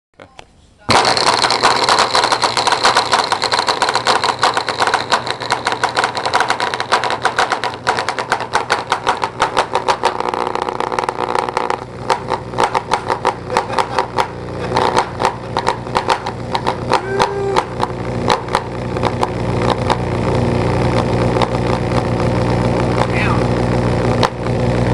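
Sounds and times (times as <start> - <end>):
subwoofer buzzing and crackling: 0.2 - 24.9.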